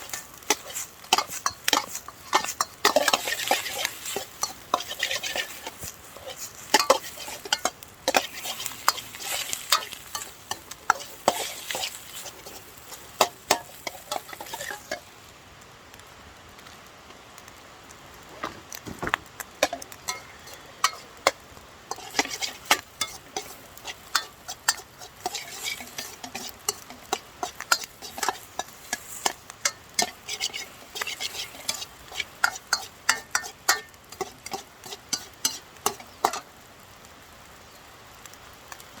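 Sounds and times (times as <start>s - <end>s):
metal spatula clanking on wok: 0.0s - 15.1s, 19.6s - 36.5s
food sizzling in pan: 0.0s - 39.0s.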